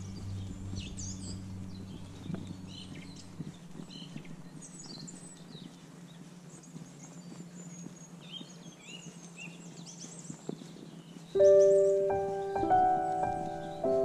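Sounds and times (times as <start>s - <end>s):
footsteps on paved path: 0.0s - 14.0s
small birds chirping: 0.0s - 14.0s
steady low hum: 0.0s - 14.0s.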